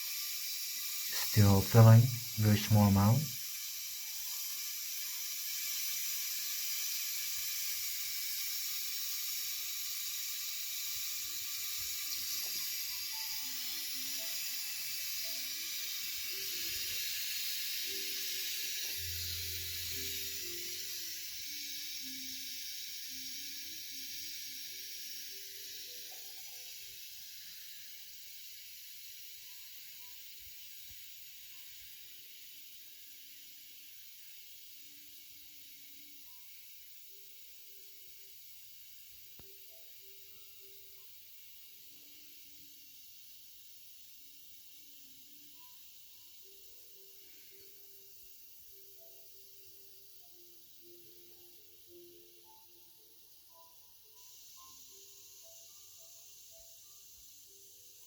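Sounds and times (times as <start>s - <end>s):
toilet fill valve hissing: 0.0s - 58.0s.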